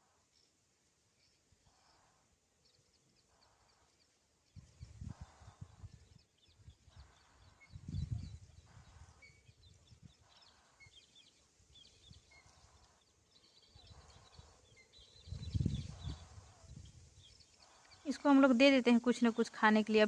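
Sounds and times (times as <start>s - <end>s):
birds chirping: 1.2s - 20.0s.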